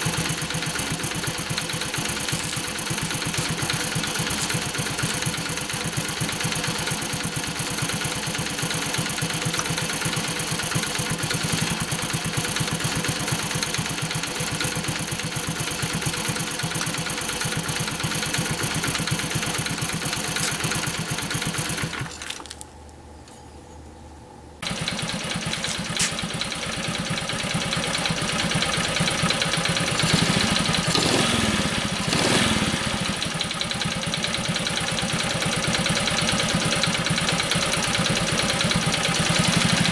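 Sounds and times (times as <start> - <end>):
motorcycle engine idling: 0.0 - 22.3, 24.6 - 39.9.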